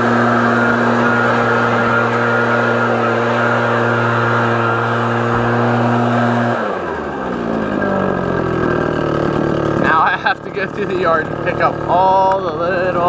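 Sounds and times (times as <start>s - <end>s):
leaf blower engine: 0.0s - 13.0s.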